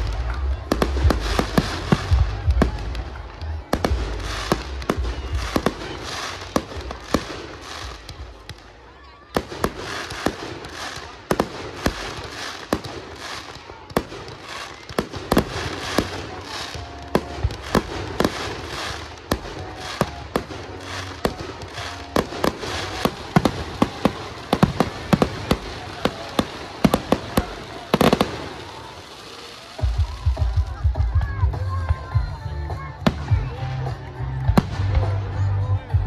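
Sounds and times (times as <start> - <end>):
hiss of burning fireworks: 0.0 - 35.4
fireworks bursting with bangs: 0.0 - 36.0.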